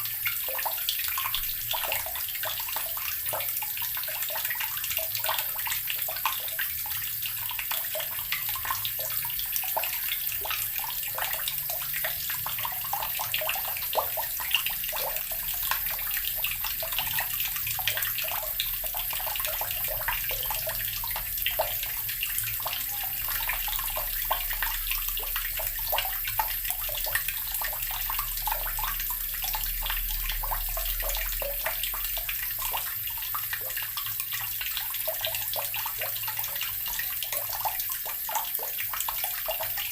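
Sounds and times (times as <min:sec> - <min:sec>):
tap water pouring into barrel: 0:00.0 - 0:39.9.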